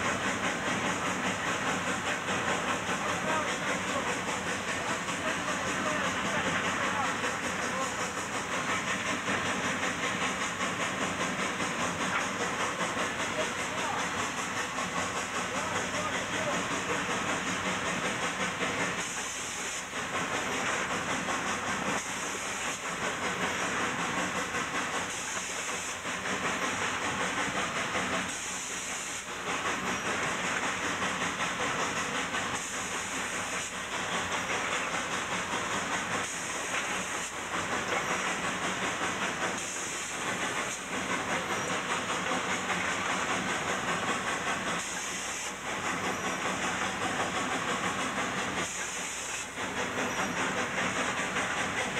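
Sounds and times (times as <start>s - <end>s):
steam rushing and hissing: 0.0s - 51.9s.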